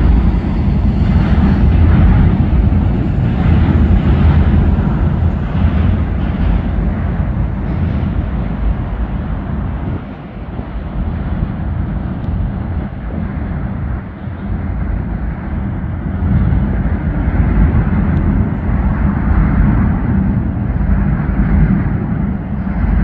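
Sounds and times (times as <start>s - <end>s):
train rumbling across bridge: 0.0s - 23.0s
wind on microphone: 0.0s - 23.0s.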